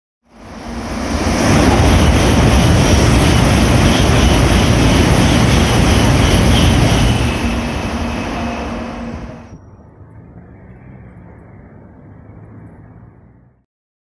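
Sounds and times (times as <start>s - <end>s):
high-speed train rushing past: 0.3s - 13.5s.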